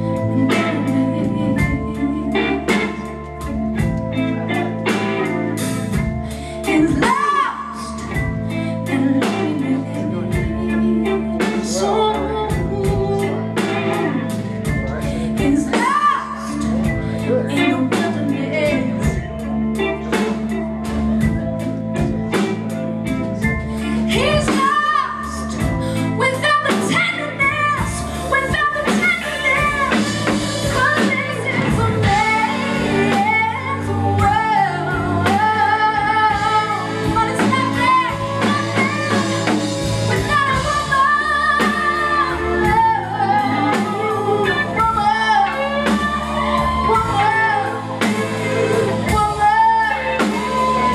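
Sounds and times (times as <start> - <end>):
live band playing: 0.0 - 50.9
woman singing: 0.0 - 50.9.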